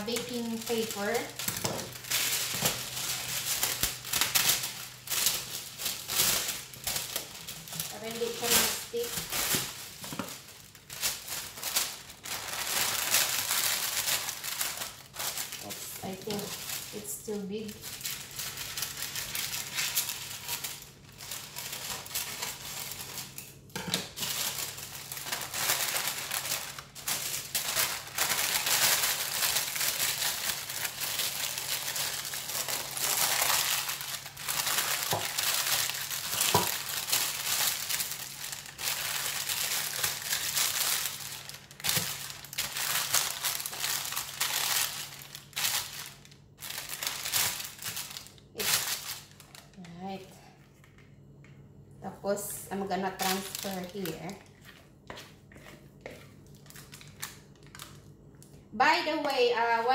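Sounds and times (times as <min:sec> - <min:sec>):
baking paper crinkling: 0:00.0 - 0:51.4, 0:52.1 - 0:59.9.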